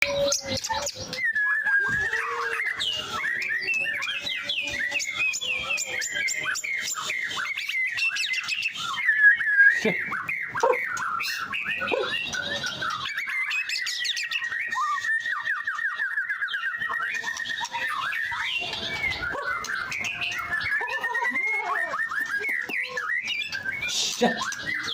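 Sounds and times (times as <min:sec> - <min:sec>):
songbird whistling and chattering: 0:00.0 - 0:24.9.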